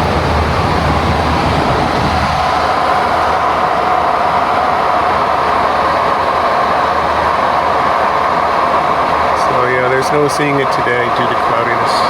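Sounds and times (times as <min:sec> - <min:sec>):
air-conditioning hum: 0:00.0 - 0:12.0
aircraft cabin airflow rushing: 0:00.0 - 0:12.0.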